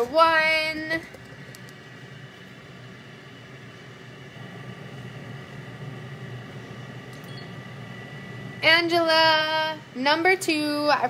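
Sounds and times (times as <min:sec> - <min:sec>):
high whine: 0:00.0 - 0:11.0
low mechanical hum: 0:00.0 - 0:11.0.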